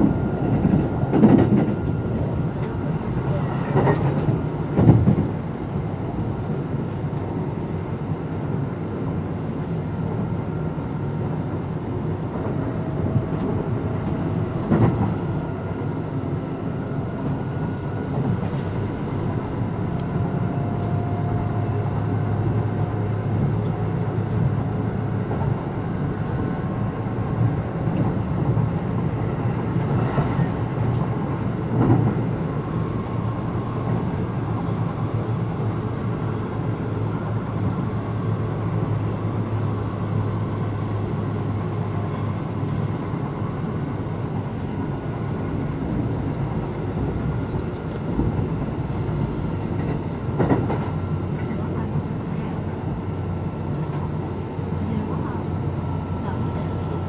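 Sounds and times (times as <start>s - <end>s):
rumble of wheels on rail: 0.0s - 57.0s.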